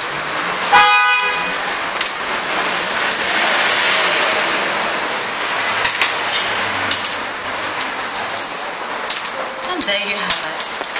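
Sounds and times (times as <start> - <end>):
passing road traffic: 0.0 - 10.9.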